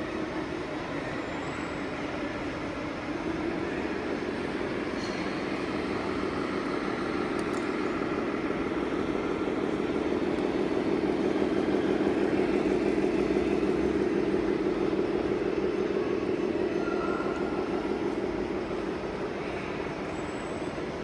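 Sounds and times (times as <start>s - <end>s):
model trucks rumbling: 0.0s - 21.0s.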